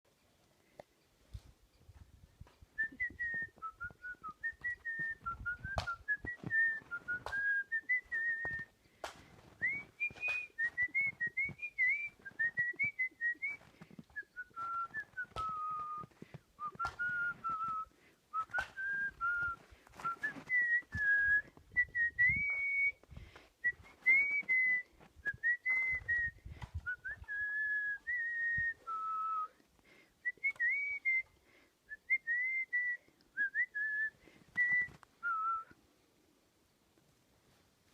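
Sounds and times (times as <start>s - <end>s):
person whistling a tune: 2.8s - 29.6s, 30.2s - 35.8s.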